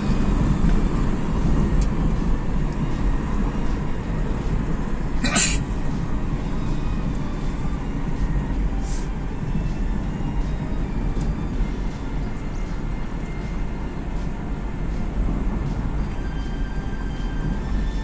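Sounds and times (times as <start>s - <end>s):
car cabin engine and tyre rumble: 0.0s - 18.0s.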